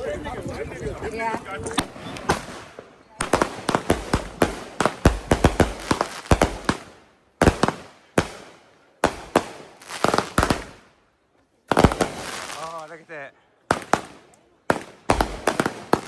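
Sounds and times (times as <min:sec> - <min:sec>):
fireworks bangs: 0:00.0 - 0:11.0, 0:11.7 - 0:16.0.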